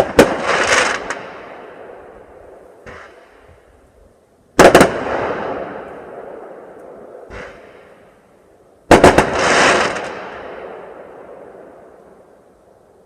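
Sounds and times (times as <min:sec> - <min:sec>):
fireworks bangs: 0:00.0 - 0:03.7, 0:04.6 - 0:08.2, 0:08.9 - 0:12.0.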